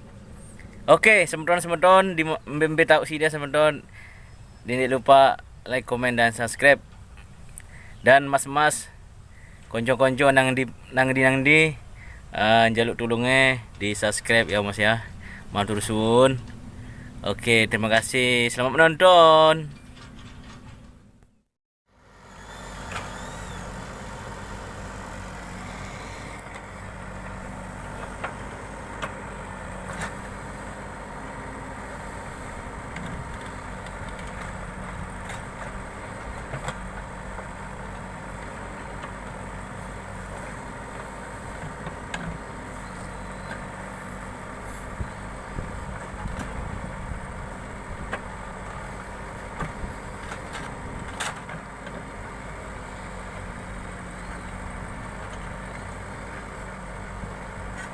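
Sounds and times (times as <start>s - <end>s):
diesel engine running: 0.0s - 21.2s, 21.9s - 57.9s.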